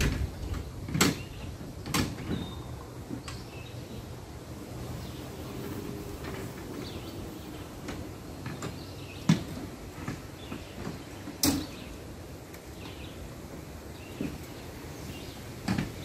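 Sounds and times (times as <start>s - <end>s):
lawn tractor clunking and rattling: 0.0s - 16.0s.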